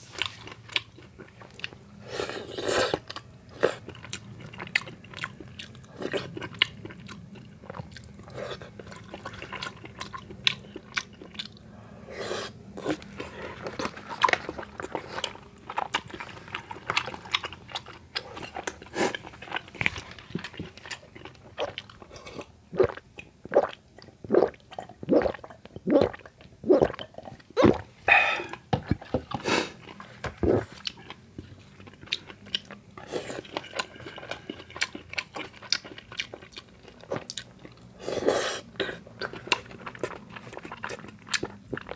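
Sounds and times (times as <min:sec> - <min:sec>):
wet chewing with crunches: 0:00.0 - 0:41.9.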